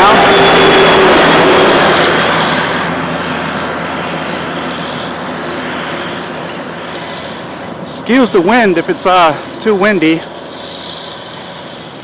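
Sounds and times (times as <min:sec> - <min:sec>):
truck passing: 0:00.0 - 0:12.0.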